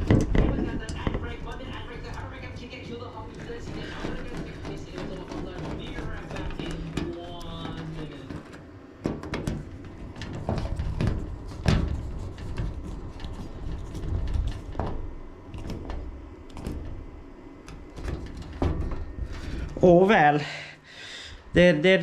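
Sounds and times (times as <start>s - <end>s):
clicks and knocks of wiring parts: 0.0s - 19.9s.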